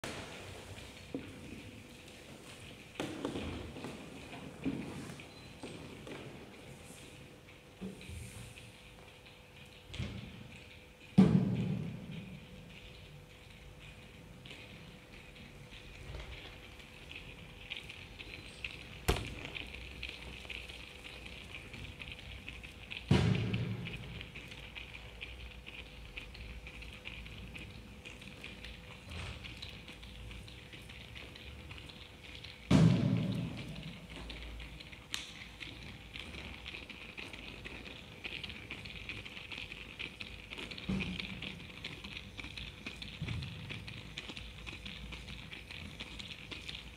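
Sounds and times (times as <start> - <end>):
wooden ball rolling on floorboards: 0.8 - 46.9.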